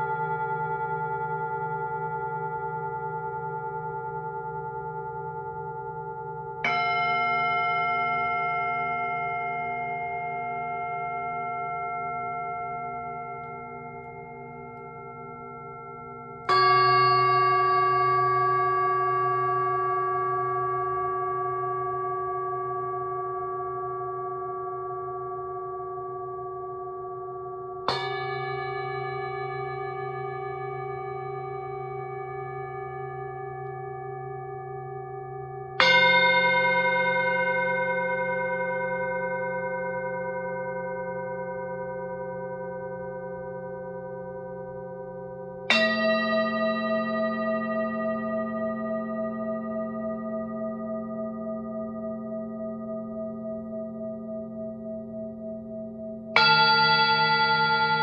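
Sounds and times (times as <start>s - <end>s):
singing bowl ringing: 0.0s - 58.0s.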